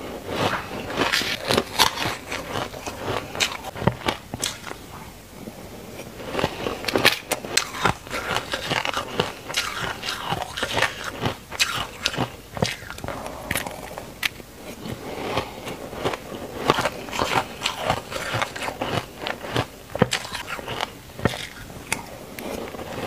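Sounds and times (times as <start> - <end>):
ice being chewed: 0.3 - 5.0, 6.0 - 23.0.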